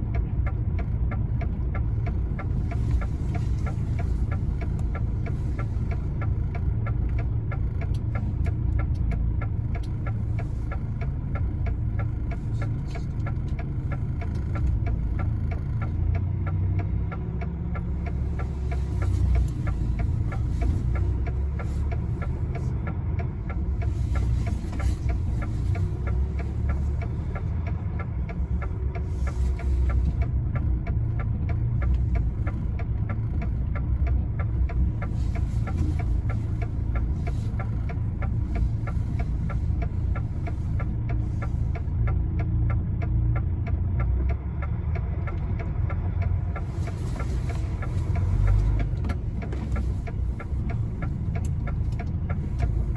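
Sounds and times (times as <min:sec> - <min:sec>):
fast even ticking: 0:00.0 - 0:52.9
lorry diesel engine running: 0:00.0 - 0:52.9.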